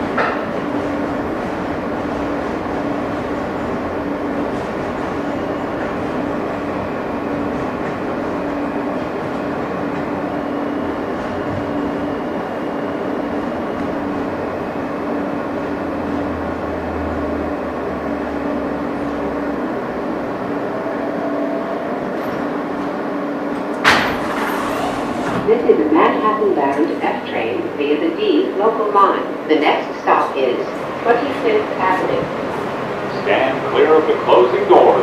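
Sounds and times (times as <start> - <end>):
subway rail running noise: 0.0 - 35.0.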